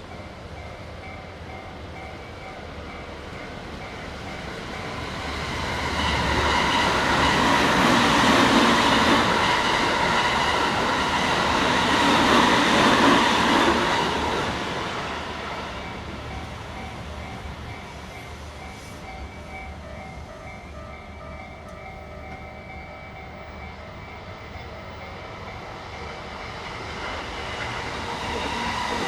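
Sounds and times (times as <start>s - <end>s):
electric train passing: 0.0s - 29.0s.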